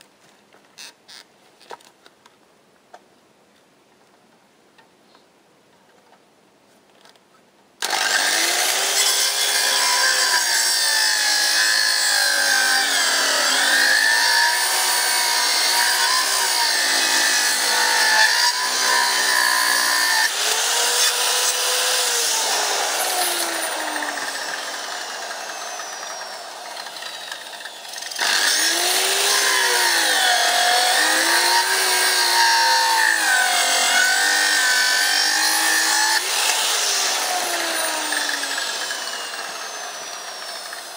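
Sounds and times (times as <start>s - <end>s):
power saw cutting wood: 7.8s - 40.9s.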